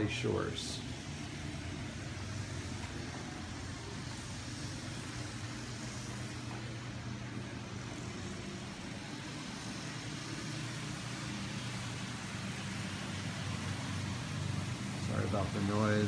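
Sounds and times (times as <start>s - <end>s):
construction machinery drone: 0.0s - 16.0s.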